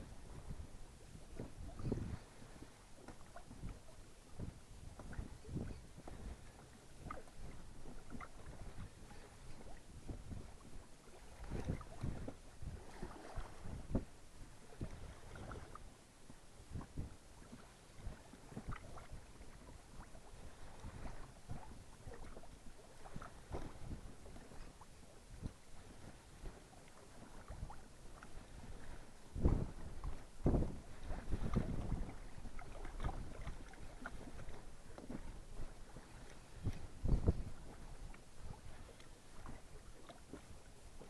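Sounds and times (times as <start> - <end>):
waves lapping against boat hull: 0.0 - 41.0
wind on microphone: 0.0 - 41.0.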